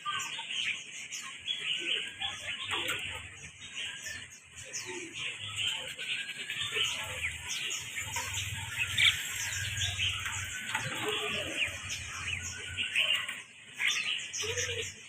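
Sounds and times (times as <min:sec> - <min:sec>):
parrots chirping: 0:01.3 - 0:15.0.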